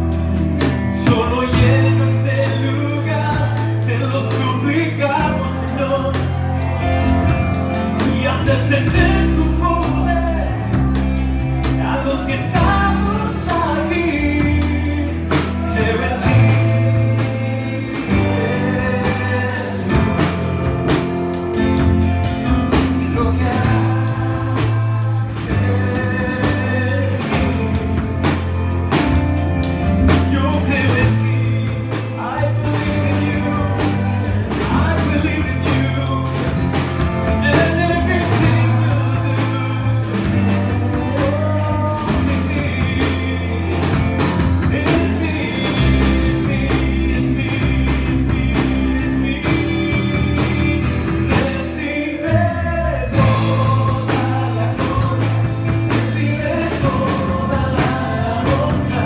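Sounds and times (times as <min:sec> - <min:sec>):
person singing: 0:00.0 - 0:59.0
worship band playing: 0:00.0 - 0:59.0.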